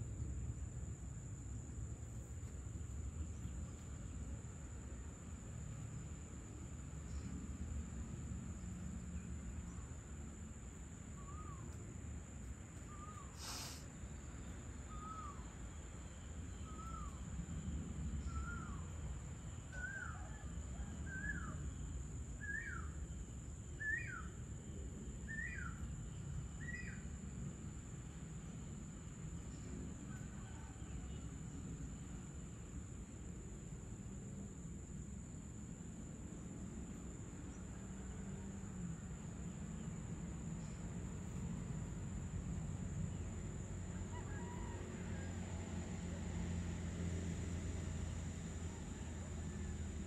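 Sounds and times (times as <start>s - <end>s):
high insect drone: 0.0s - 50.0s.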